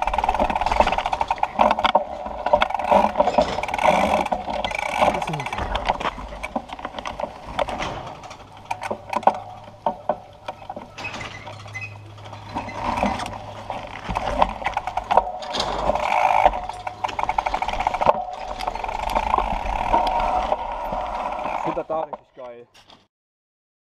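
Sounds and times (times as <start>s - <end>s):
rear hub clicking: 0.0s - 22.5s
bike frame and chain rattling: 0.0s - 23.1s.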